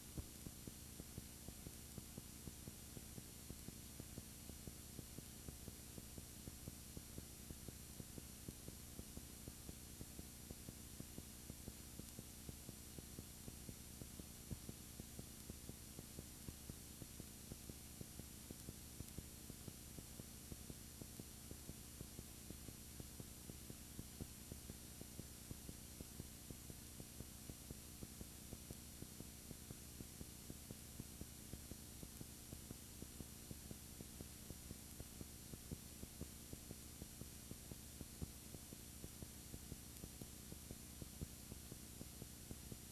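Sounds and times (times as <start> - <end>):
faint hum and hiss: 0.0 - 42.9.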